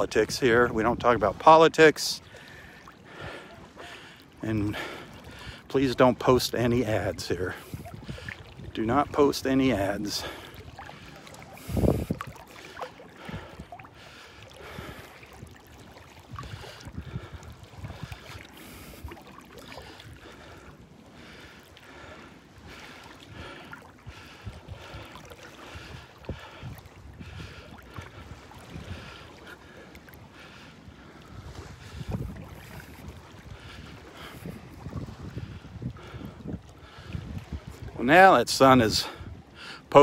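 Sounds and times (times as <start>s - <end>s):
water sloshing and lapping: 0.0s - 40.0s
wind buffeting microphone: 4.4s - 40.0s.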